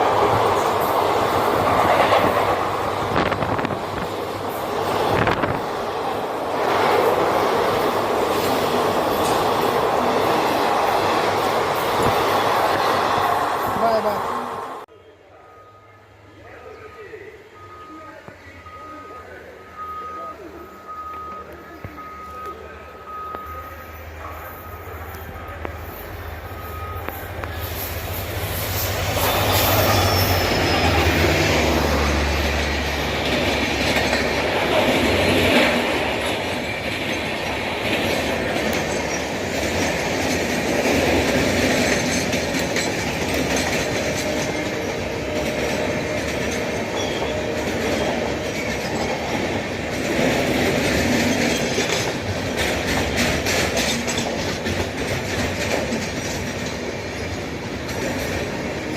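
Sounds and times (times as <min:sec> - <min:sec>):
train wheels rumbling and clattering: 0:00.0 - 0:14.8, 0:20.8 - 0:58.9.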